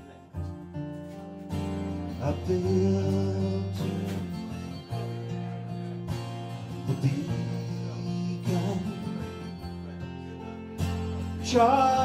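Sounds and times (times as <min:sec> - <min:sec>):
acoustic guitar strumming: 0:00.0 - 0:12.0
bass guitar: 0:00.0 - 0:12.0.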